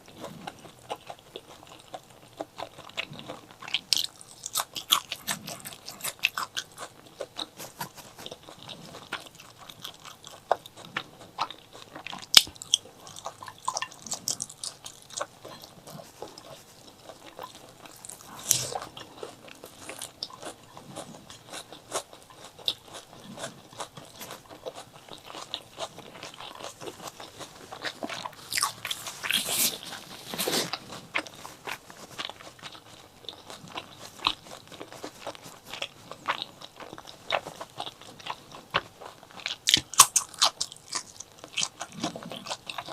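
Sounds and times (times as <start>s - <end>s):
crunchy chewing: 0.0s - 42.9s.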